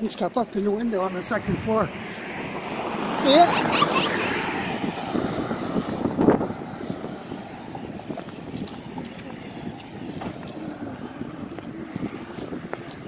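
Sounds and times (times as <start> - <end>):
road traffic passing: 0.0 - 13.0
wind buffeting microphone: 0.0 - 13.0.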